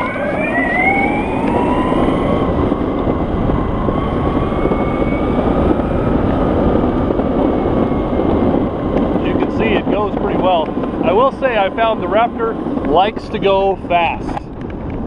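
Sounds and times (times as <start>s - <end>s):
electric drive whining: 0.0s - 12.7s
wheels rolling on pavement: 0.0s - 15.0s.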